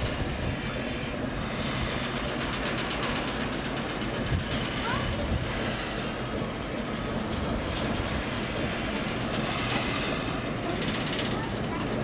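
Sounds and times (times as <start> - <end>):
railway rumble and hiss: 0.0 - 12.0.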